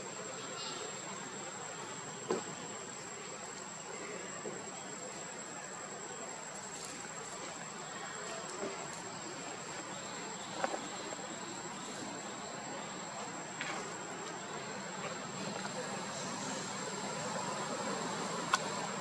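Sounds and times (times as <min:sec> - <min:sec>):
crickets buzzing: 0:00.0 - 0:19.0
faint outdoor hiss: 0:00.0 - 0:19.0.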